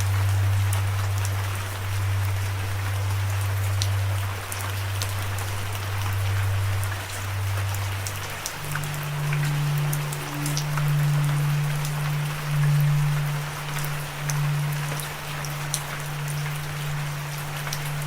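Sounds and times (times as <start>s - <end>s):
low musical drone: 0.0s - 18.0s
steady rain: 0.0s - 18.0s.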